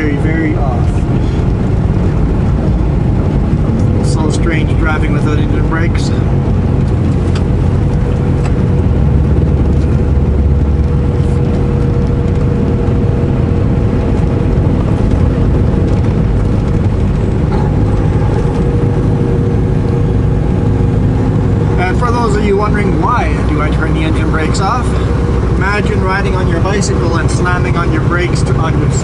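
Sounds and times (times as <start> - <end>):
truck diesel engine running: 0.0 - 29.0
tyres humming on snowy road: 0.0 - 29.0.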